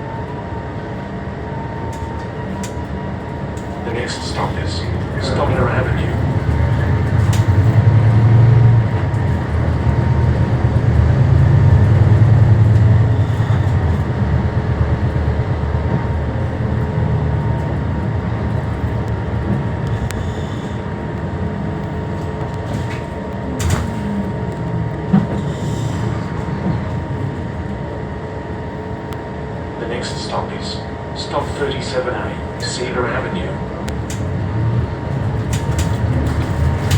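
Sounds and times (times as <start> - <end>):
bus engine droning: 0.0 - 36.9
road noise: 0.0 - 36.9.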